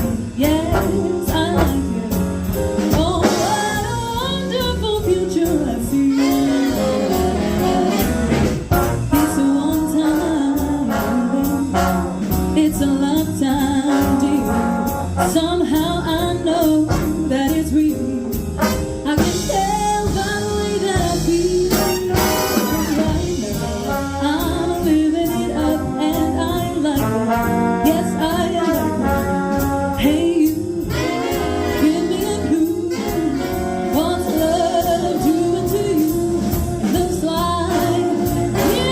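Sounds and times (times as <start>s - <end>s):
big band playing jazz: 0.0s - 38.9s.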